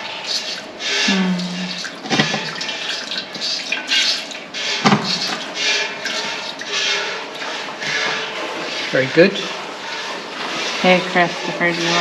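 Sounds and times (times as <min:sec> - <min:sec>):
milk squirting into a bucket: 0:00.2 - 0:10.8.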